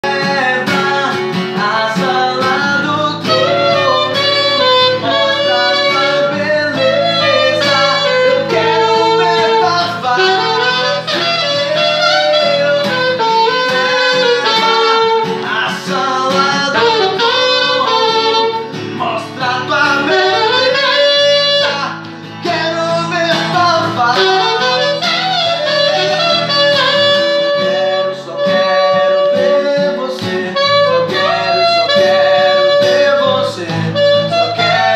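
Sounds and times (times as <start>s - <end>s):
man singing: 0.0s - 34.9s
strummed acoustic guitar: 0.0s - 34.9s
alto saxophone: 2.0s - 34.9s.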